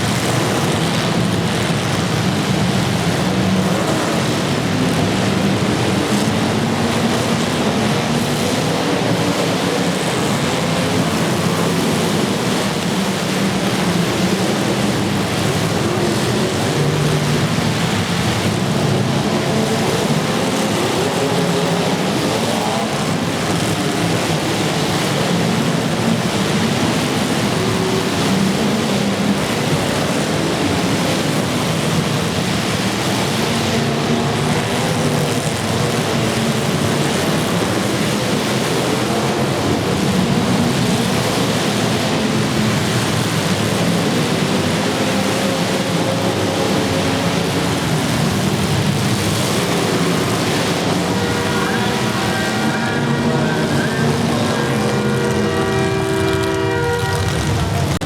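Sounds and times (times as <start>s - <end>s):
car engines revving: 0.0s - 58.0s
dense rushing noise: 0.0s - 58.0s.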